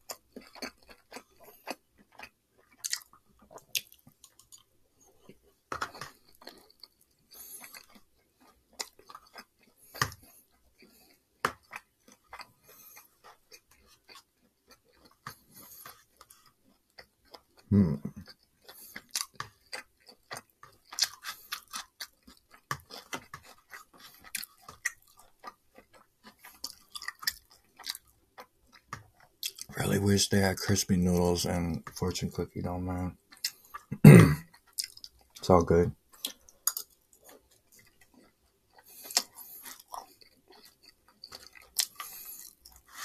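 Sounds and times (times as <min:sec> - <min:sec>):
person chewing food: 0:00.0 - 0:29.8, 0:31.1 - 0:43.0.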